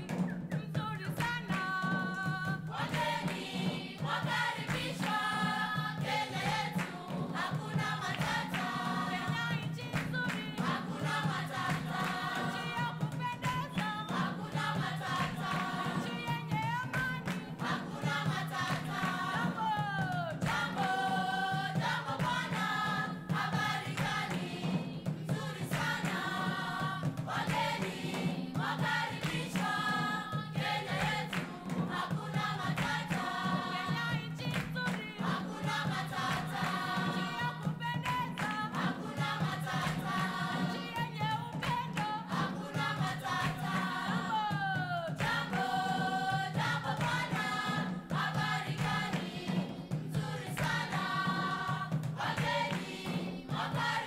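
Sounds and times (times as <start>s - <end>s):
choir singing: 1.7s - 54.0s.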